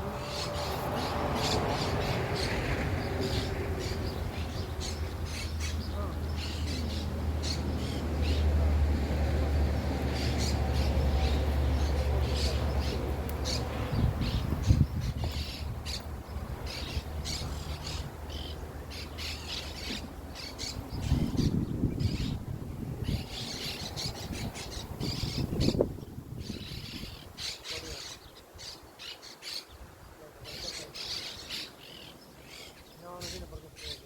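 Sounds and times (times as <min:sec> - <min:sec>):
birds calling and squawking: 0:00.0 - 0:08.8, 0:09.4 - 0:34.0.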